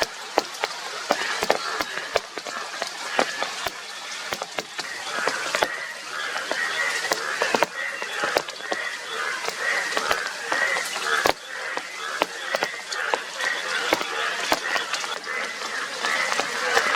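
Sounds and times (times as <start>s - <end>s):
bullfrogs calling in chorus: 0.0s - 16.9s.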